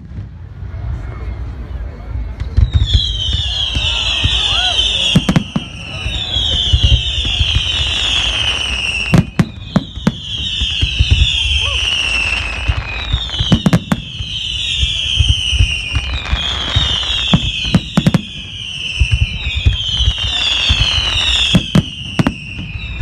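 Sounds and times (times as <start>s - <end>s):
whistling fireworks: 0.0s - 23.0s
sharp firework bangs: 2.4s - 23.0s.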